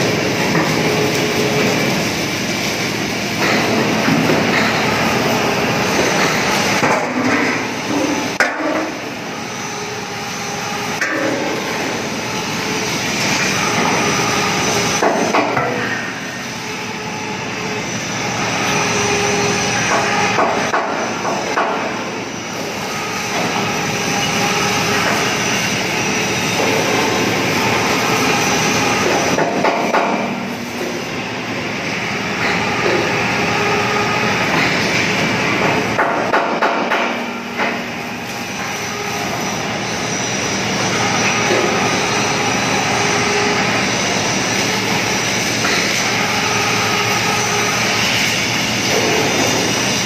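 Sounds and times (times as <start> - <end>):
steady factory noise: 0.0 - 50.0.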